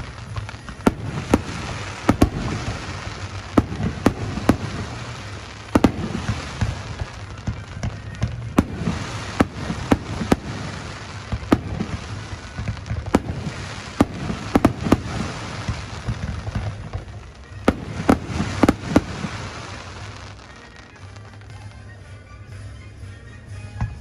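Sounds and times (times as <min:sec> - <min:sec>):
fireworks bangs: 0:00.0 - 0:20.6.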